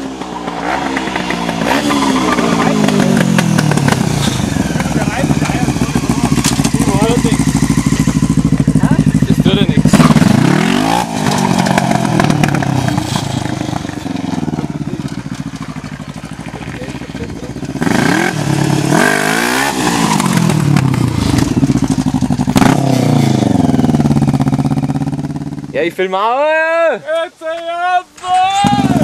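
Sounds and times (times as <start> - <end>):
lawnmower engines revving past: 0.0 - 25.3.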